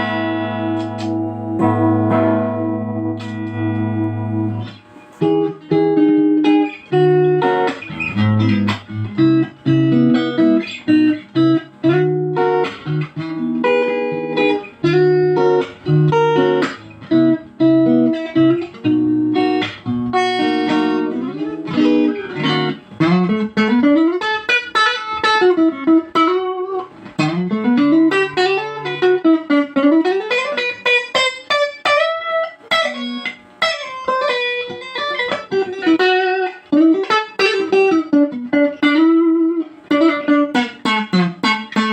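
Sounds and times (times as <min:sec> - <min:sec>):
clean electric guitar: 0:00.0 - 0:41.9.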